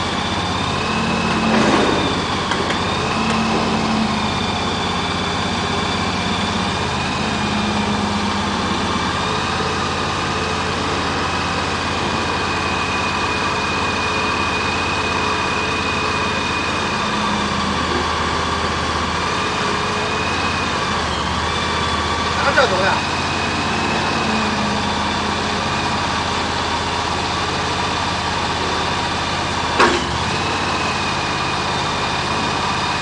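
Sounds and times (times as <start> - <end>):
petrol engine running steadily: 0.0 - 33.0.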